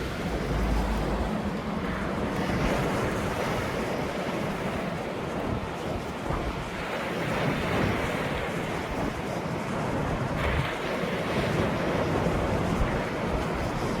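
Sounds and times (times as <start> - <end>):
ocean waves washing ashore: 0.0 - 14.0
wind rumbling on microphone: 0.0 - 14.0.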